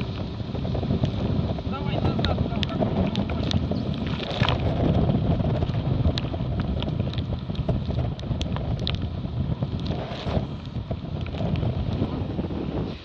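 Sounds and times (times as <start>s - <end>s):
water rushing past hulls: 0.0s - 13.0s
wind buffeting microphone: 0.0s - 13.0s.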